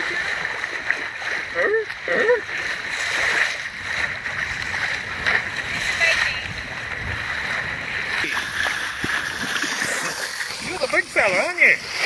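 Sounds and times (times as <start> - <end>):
bow wave rushing along hull: 0.0 - 12.0.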